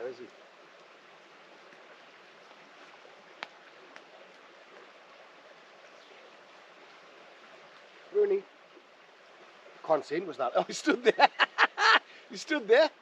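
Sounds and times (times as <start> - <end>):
campfire hissing: 0.0 - 13.0.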